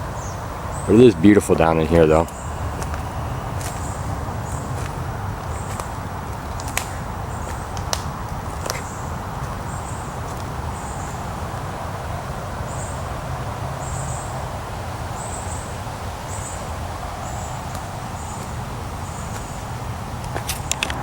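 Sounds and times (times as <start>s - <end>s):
distant freeway traffic hum: 0.0s - 21.0s.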